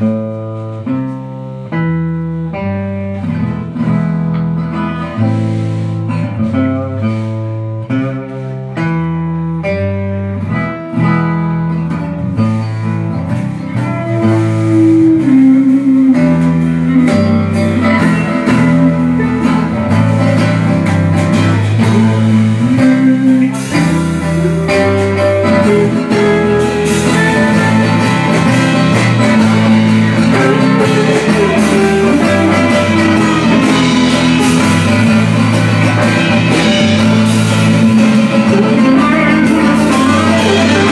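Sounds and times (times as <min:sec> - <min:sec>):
acoustic guitar: 0:00.0 - 0:40.9
drums: 0:00.0 - 0:40.9
banjo picking: 0:02.6 - 0:40.9.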